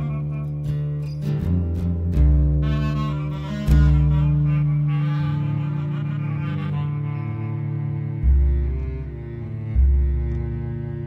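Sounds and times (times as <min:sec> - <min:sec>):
slow bowed strings: 0:00.0 - 0:11.0.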